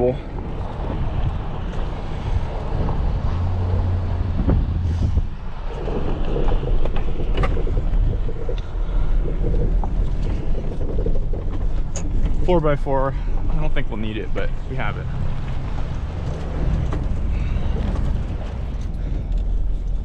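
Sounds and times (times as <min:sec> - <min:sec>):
truck engine and road rumble: 0:00.0 - 0:20.0
rattles and knocks: 0:00.7 - 0:20.0.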